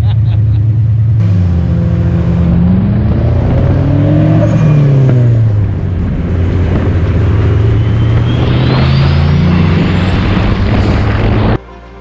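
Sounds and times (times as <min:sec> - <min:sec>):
car engine running loudly: 0:00.0 - 0:11.6.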